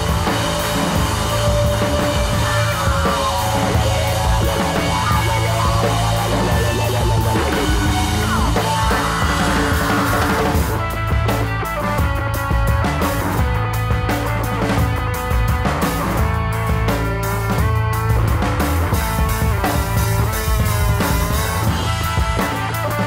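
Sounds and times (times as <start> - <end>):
instrumental rock music: 0.0 - 23.0.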